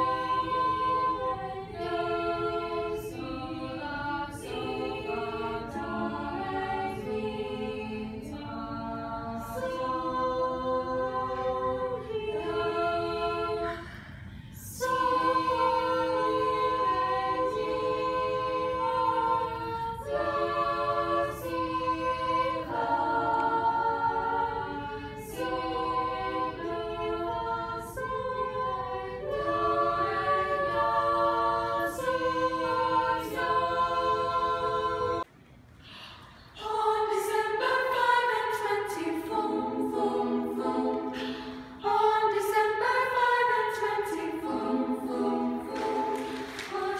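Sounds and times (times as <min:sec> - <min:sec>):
choir singing a cappella: 0:00.0 - 0:46.9
small group singing a cappella: 0:00.0 - 0:46.9.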